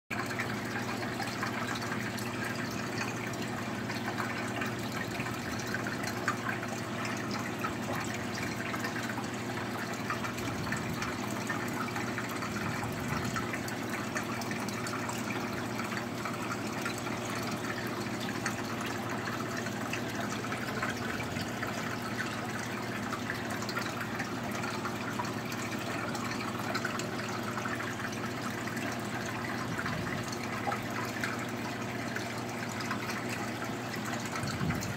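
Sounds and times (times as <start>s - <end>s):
pump hum: 0.1s - 34.9s
water trickling and splashing: 0.1s - 34.9s.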